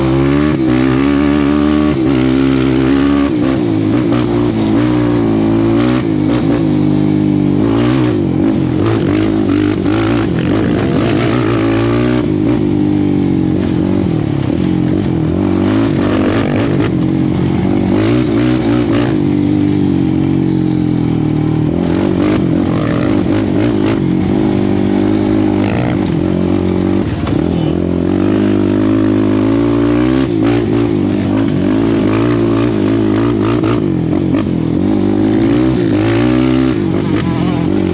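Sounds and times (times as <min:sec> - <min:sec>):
quad engine revving: 0:00.0 - 0:37.9.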